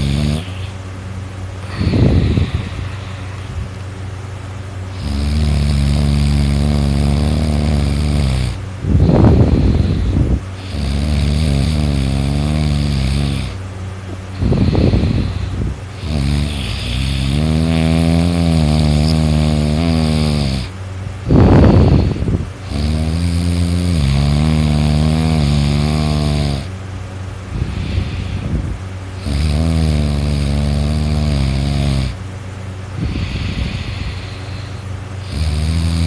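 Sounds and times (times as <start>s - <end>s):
man snoring heavily: 0.0s - 0.8s, 1.6s - 3.7s, 4.9s - 13.6s, 14.3s - 26.8s, 27.5s - 32.2s, 33.0s - 36.0s
steady low hum: 0.0s - 36.0s.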